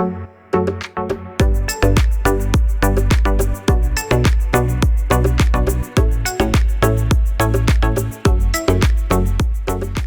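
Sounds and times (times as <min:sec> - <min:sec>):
music with drums and deep bass: 0:01.4 - 0:10.0.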